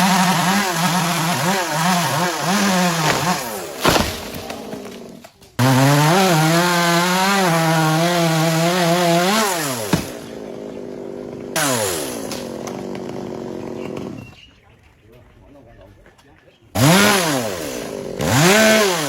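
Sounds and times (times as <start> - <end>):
chainsaw cutting wood: 0.0 - 10.4, 11.0 - 14.2, 16.8 - 19.0.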